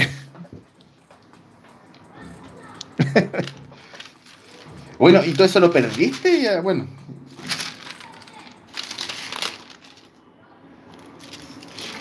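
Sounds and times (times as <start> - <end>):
crinkling rustle of pages turned: 0.6 - 12.0.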